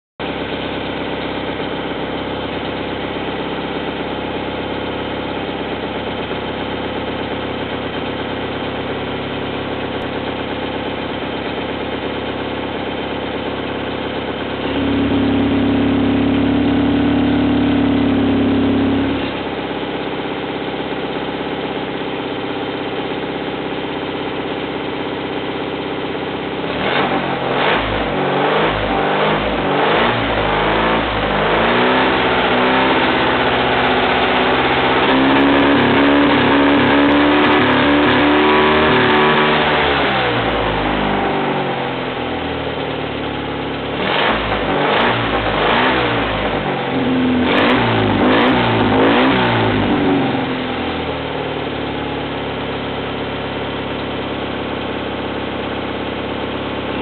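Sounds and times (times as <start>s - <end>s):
car engine idling and revving: 0.2s - 57.0s.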